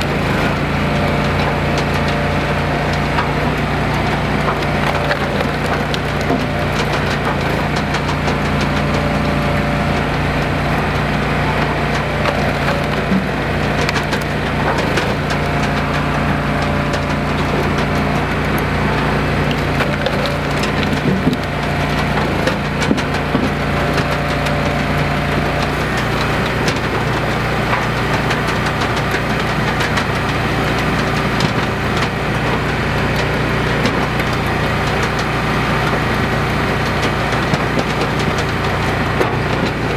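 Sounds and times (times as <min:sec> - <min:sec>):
log splitter engine running: 0:00.0 - 0:39.9
wood cracking and splintering: 0:00.0 - 0:39.9.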